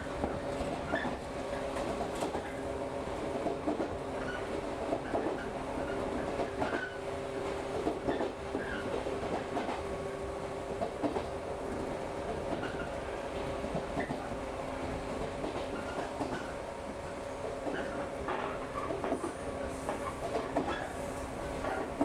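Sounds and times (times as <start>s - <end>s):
steady train hum: 0.0s - 22.0s
train wheels rumbling: 0.0s - 22.0s.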